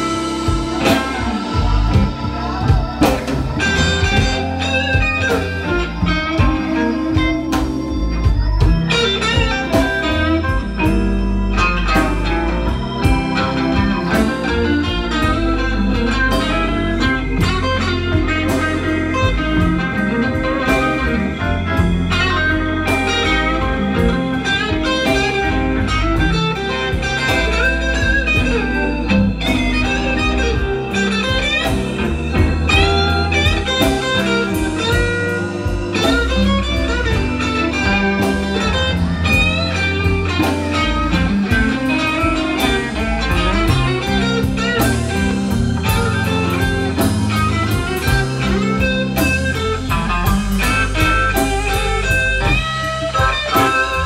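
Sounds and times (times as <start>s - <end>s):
bass: 0.0s - 54.0s
drums: 0.0s - 54.0s
electric guitar lines: 0.0s - 54.0s.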